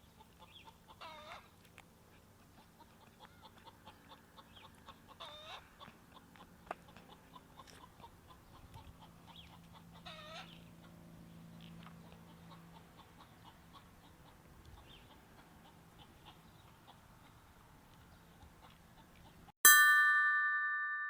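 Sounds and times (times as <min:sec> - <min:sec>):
chickens clucking: 0:00.1 - 0:01.6, 0:02.4 - 0:11.0, 0:11.6 - 0:19.5.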